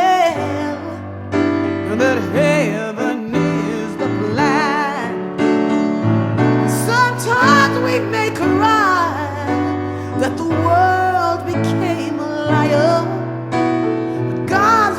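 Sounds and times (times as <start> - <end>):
piano: 0.0 - 14.9
slow gospel song: 0.0 - 14.9.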